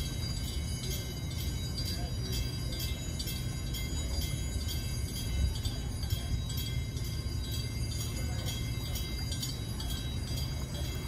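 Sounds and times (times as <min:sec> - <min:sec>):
warning bell ringing rapidly: 0:00.0 - 0:11.0.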